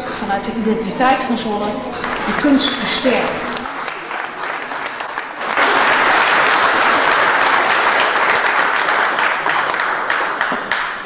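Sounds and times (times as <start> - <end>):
crowd applauding: 2.0 - 11.0.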